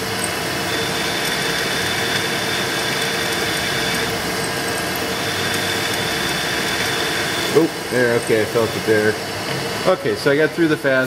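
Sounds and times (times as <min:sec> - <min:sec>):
drill spindle humming and whining: 0:00.0 - 0:11.0.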